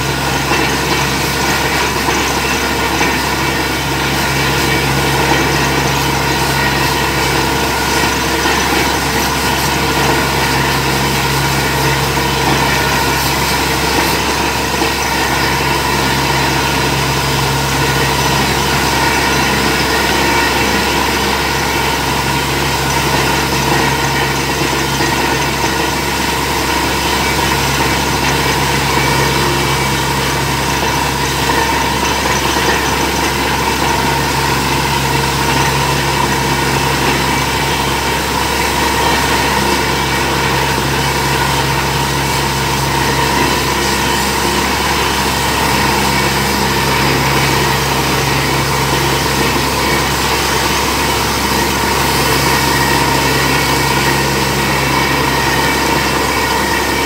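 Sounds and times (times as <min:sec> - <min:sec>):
air compressor running: 0:00.0 - 0:57.0
drilling rig engine running: 0:00.0 - 0:57.0
water gushing spray: 0:00.0 - 0:57.0.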